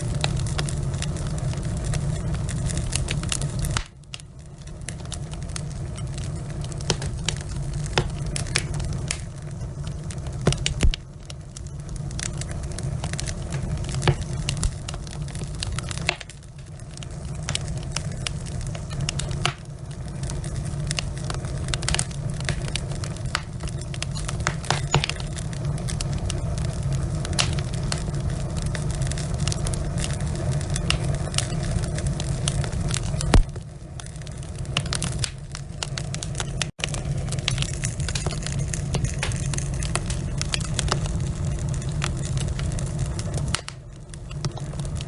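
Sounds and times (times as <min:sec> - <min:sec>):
logs crackling and popping: 0:00.0 - 0:45.0
low rumble of flames: 0:00.0 - 0:45.0.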